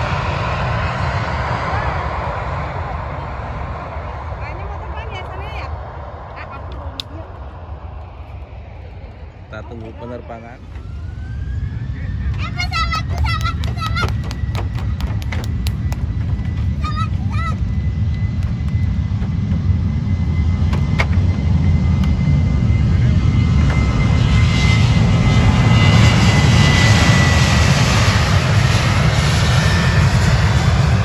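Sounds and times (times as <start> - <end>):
jet engines rumbling and whining: 0.0 - 31.0.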